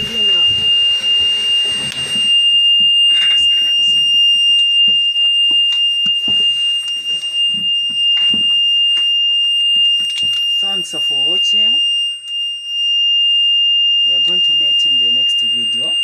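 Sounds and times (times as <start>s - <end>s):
high-pitched warning buzzer: 0.0s - 16.0s.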